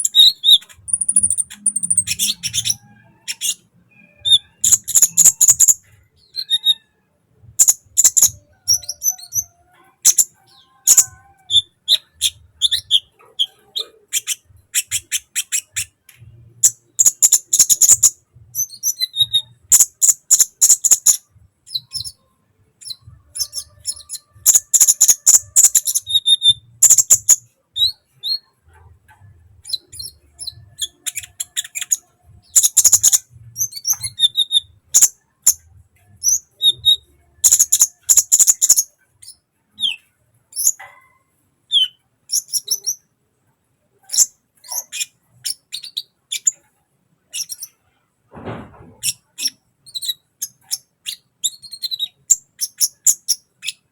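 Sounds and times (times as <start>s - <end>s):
bird chattering song: 0.0s - 41.1s, 41.7s - 43.1s, 44.0s - 46.7s, 47.3s - 47.8s, 49.0s - 53.9s.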